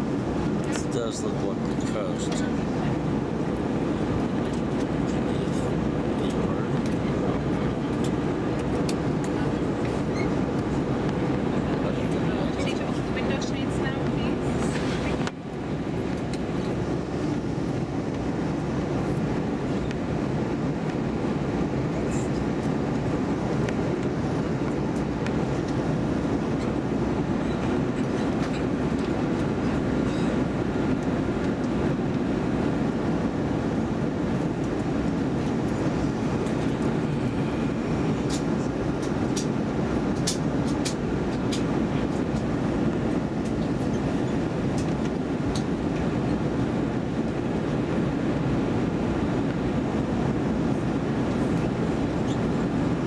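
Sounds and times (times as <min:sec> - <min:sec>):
jet engine cabin roar: 0:00.0 - 0:53.0.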